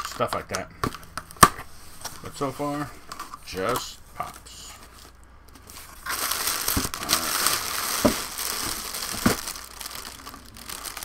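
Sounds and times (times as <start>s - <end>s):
packing material rustling: 0.0s - 11.0s.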